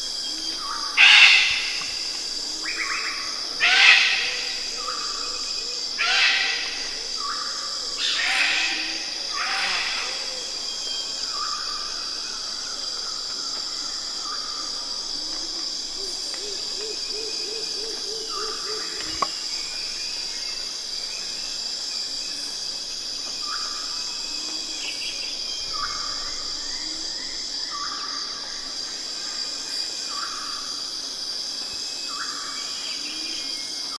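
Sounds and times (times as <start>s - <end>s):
insect chirring: 0.0s - 34.0s.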